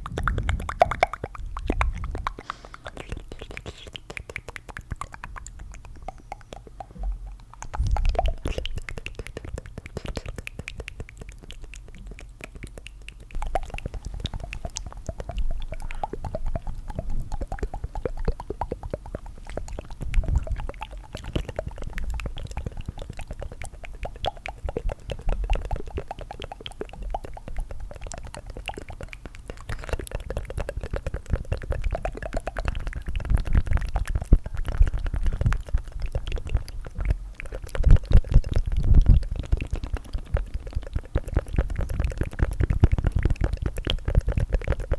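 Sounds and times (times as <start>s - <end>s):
tongue fluttering clicks: 0.0s - 44.9s.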